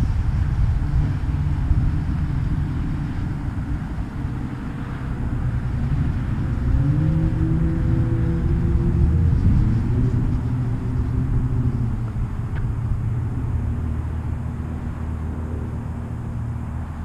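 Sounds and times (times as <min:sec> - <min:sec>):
distant model plane motor hum: 0:00.0 - 0:17.0
wind rumbling on microphone: 0:00.0 - 0:17.0.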